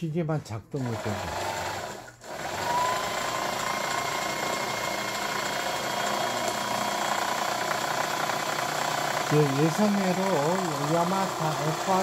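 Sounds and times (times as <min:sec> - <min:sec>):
sewing machine motor hum: 0:00.8 - 0:12.0.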